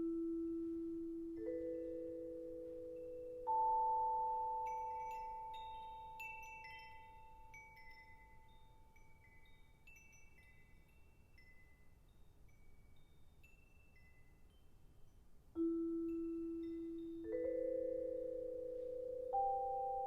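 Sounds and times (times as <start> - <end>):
small high chimes pinging: 0.0 - 20.0.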